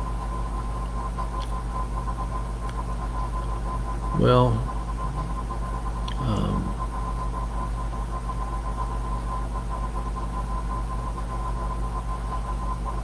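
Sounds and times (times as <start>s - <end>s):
low hum and hiss: 0.0s - 13.0s
thin steady tone: 0.0s - 13.0s.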